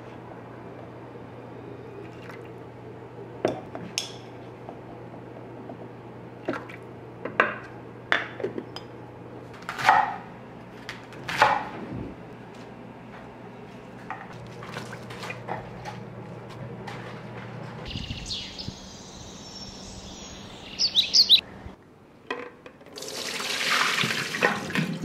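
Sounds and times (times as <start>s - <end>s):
steady low hum: 0.0s - 22.2s.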